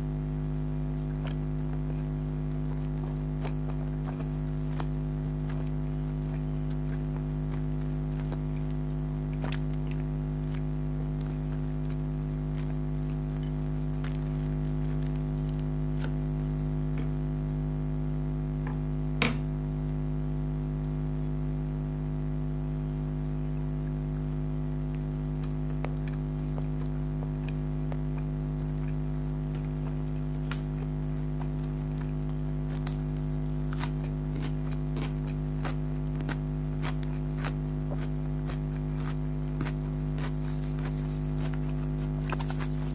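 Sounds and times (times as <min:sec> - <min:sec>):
steady low hum: 0:00.0 - 0:42.9
chewing and eating clicks: 0:00.5 - 0:17.3, 0:23.2 - 0:42.9.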